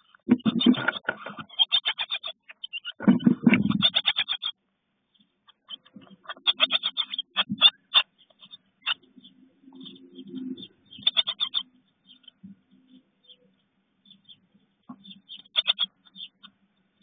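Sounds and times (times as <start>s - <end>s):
nestlings chirping rapidly: 0.0s - 17.0s.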